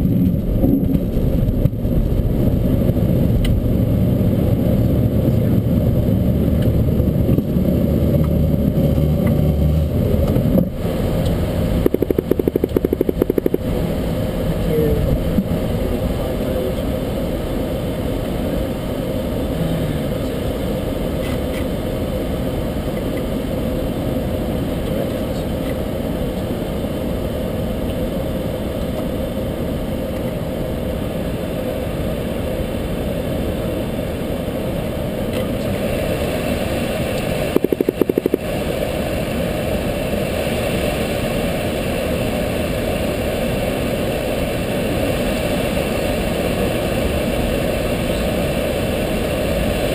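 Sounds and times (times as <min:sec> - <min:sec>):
light aircraft engine droning: 0:00.0 - 0:49.9.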